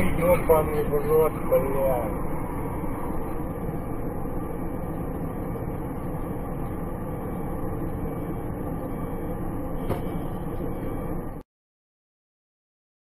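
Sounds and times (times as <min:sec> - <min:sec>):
vehicle engine and road noise: 0:00.0 - 0:11.4.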